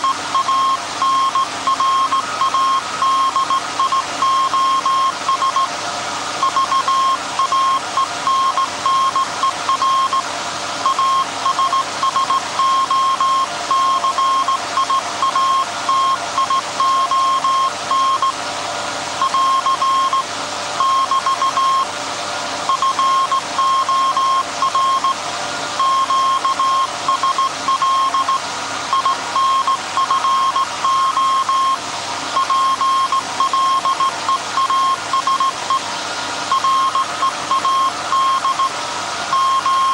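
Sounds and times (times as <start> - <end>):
morse code tone: 0.0 - 5.7, 6.4 - 10.2, 10.8 - 18.4, 19.2 - 21.9, 22.7 - 25.2, 25.8 - 31.8, 32.4 - 35.9, 36.5 - 39.9.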